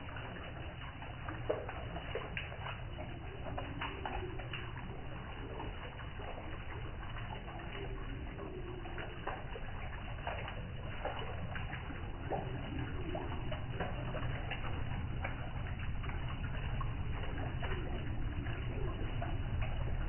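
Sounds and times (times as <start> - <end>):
garden waterfall splashing: 0.0 - 20.0.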